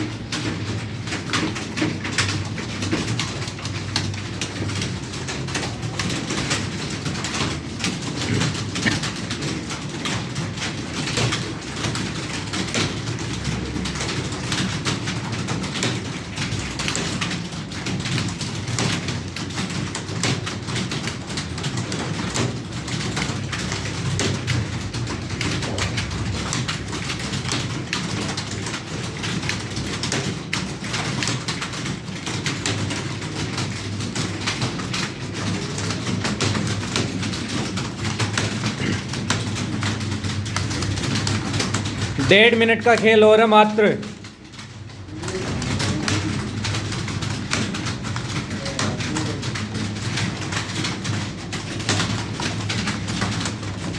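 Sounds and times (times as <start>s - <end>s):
rapid typing on computer keyboard: 0.0s - 53.9s.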